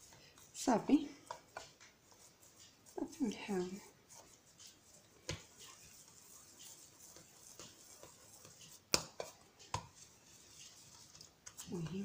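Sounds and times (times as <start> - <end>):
dough handling noise: 0.0 - 12.0.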